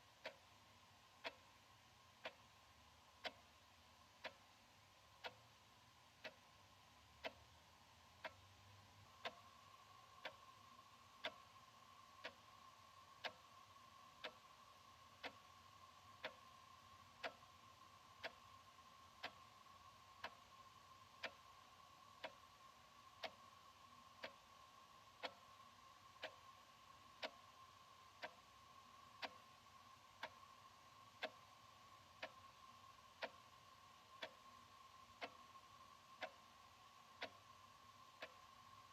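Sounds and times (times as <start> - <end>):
wall clock ticking: 0.0 - 38.9.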